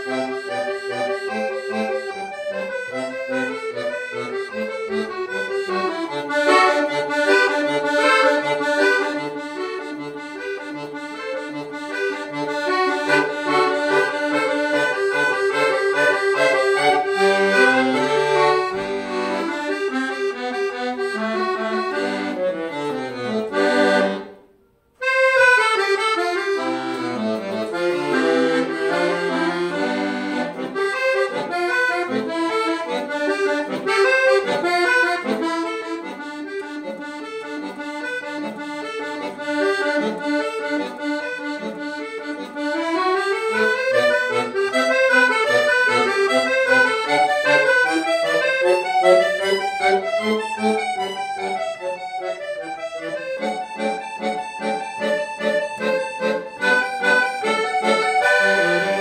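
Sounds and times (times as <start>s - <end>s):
piano accordion melody: 0.0s - 59.0s.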